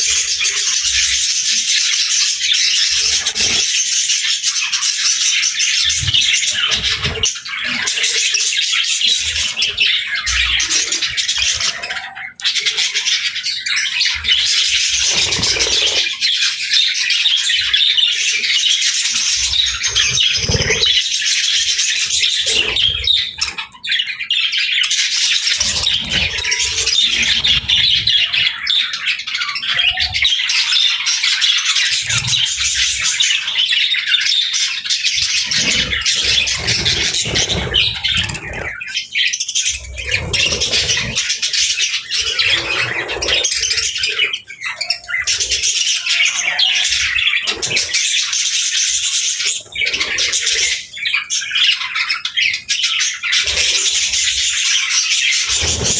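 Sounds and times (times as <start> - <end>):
budgerigars chattering and chirping: 0.0 - 55.9.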